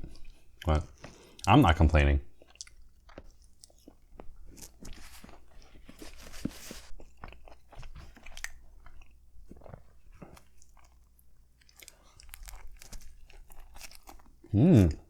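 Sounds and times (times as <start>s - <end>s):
chewing sandwich: 0.0s - 15.0s.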